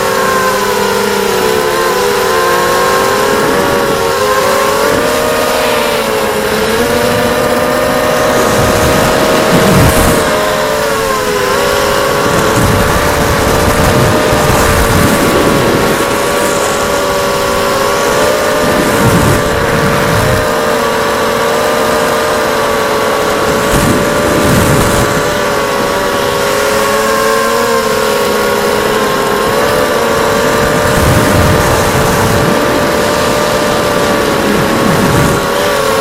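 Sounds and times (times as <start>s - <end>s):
drone motors and propellers: 0.0s - 36.0s
wind buffeting: 0.0s - 36.0s.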